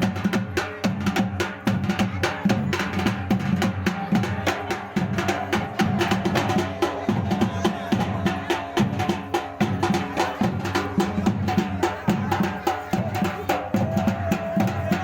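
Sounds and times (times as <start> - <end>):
drums beating fast rhythm: 0.0 - 15.0.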